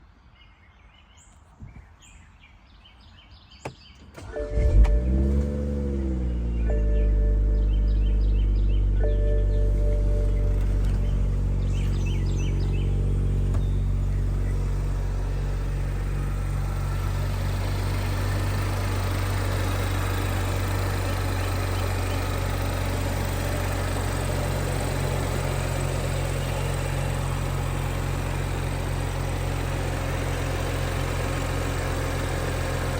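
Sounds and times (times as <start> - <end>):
car engine idling: 4.2 - 32.9.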